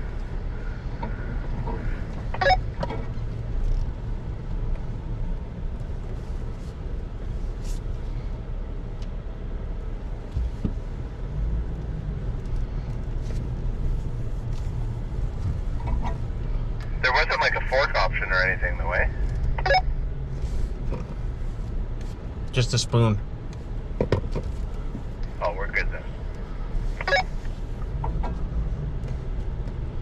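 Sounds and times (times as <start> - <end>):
truck engine rumble: 0.0 - 30.0.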